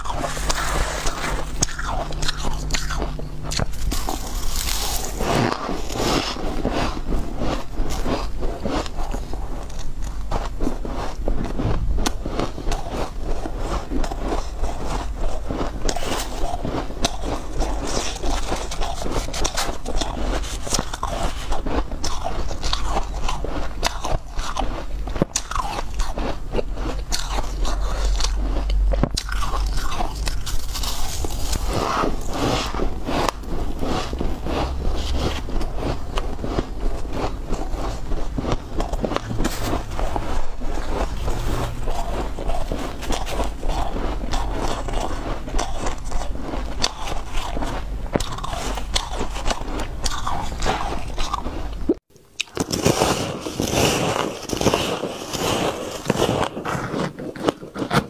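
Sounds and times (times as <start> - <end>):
metal spoon scraping ice: 0.0 - 11.5, 12.4 - 51.8
ice crunching and chewing: 0.0 - 58.0.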